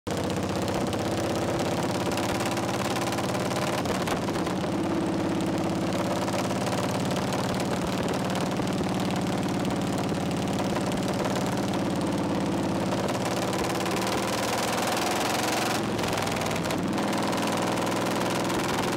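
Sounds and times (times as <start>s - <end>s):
motorcycle engine running: 0.1s - 18.9s.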